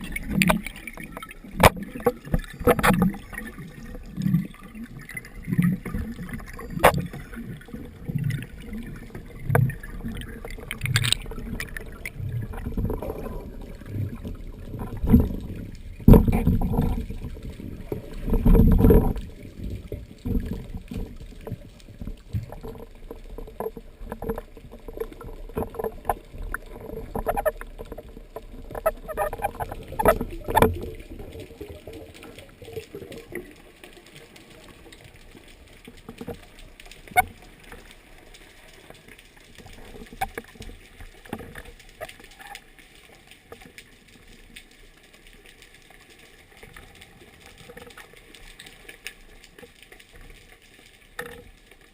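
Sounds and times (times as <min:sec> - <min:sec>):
water sloshing underwater: 0:00.0 - 0:51.9.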